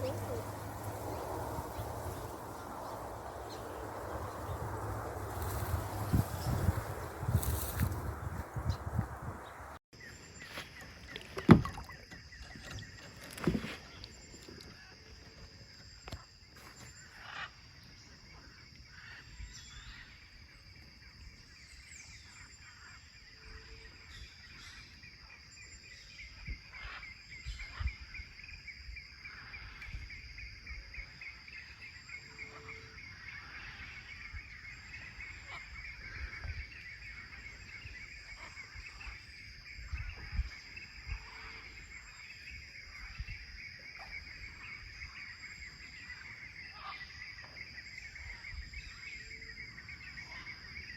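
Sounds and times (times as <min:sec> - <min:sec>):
birds and animals calling: 0:00.0 - 0:50.9.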